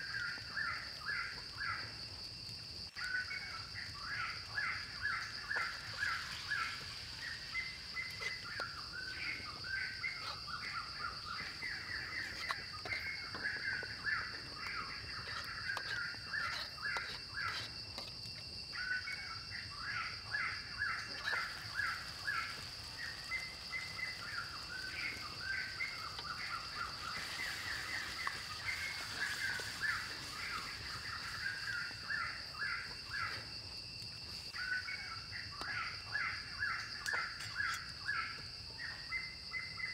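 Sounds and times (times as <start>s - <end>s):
high insect drone: 0.0s - 39.9s
birds chirping: 2.9s - 39.9s.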